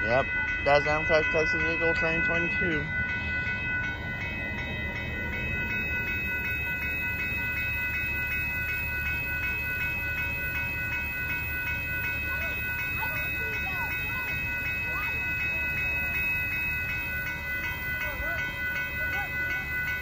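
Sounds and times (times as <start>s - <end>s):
crossing warning bell ringing: 0.0s - 20.0s
train rumbling past: 0.6s - 20.0s.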